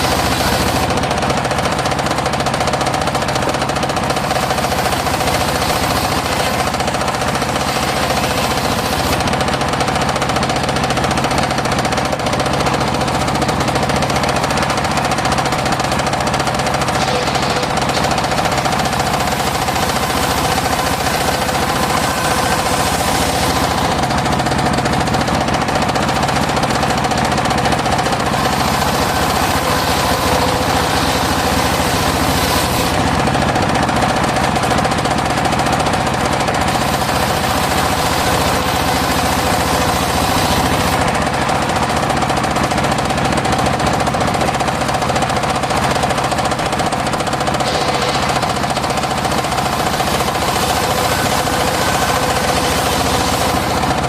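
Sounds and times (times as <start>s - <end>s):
circular saw sawing wood: 0.0s - 43.1s, 45.8s - 54.0s.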